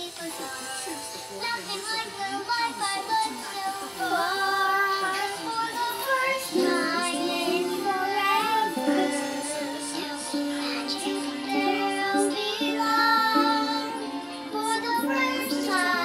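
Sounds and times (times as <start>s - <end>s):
girl singing: 0.0s - 16.0s.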